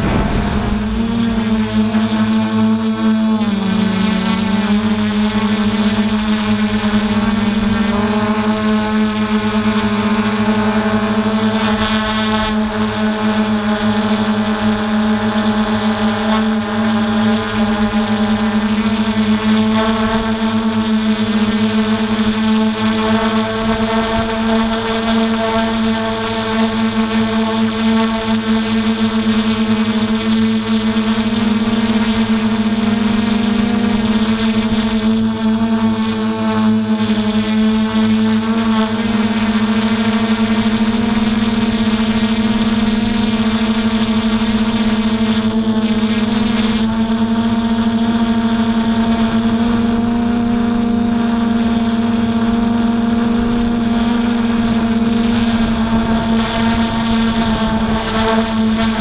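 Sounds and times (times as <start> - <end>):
drone motors and propellers whining: 0.0 - 59.0.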